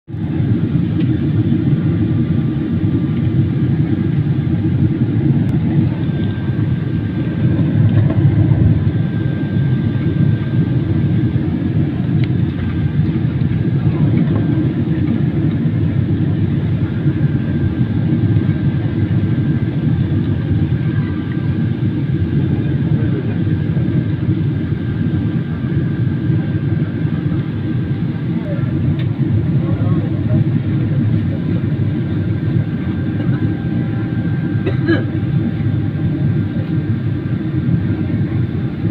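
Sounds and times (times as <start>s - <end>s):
airliner cabin jet noise: 0.1s - 38.9s.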